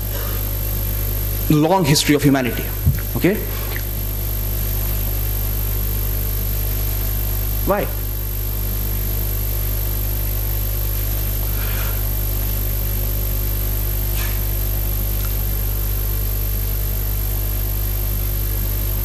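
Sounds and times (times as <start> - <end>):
electrical hum and hiss: 0.0 - 19.0
low mains buzz: 0.0 - 19.0.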